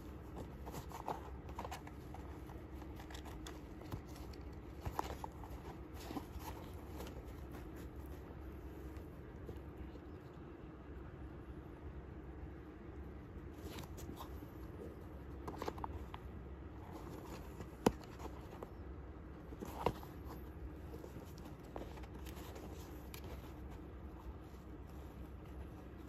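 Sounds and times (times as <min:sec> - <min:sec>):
hands rustling a shoe: 0:00.0 - 0:10.5, 0:13.0 - 0:26.0.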